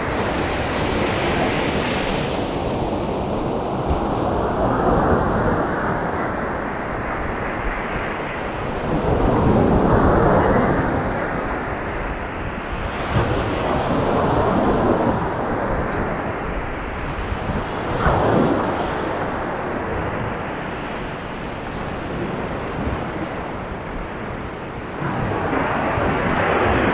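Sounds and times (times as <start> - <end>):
sea surf breaking on beach: 0.0 - 26.9.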